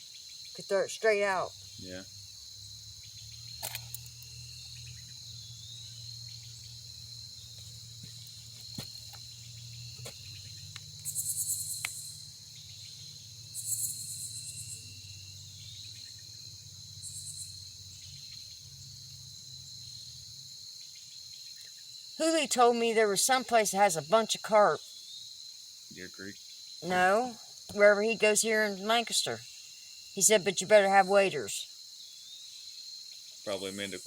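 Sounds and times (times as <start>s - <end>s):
crickets trilling: 0.0s - 34.0s
pulsing high-pitched insect calls: 0.0s - 34.0s.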